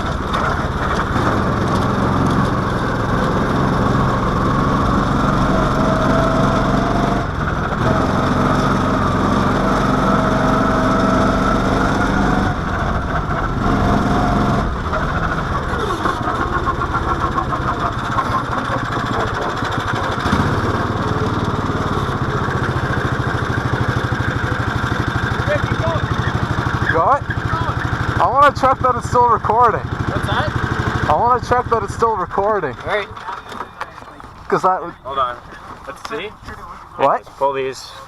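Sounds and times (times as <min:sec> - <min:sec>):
single-cylinder engine running: 0:00.0 - 0:36.5.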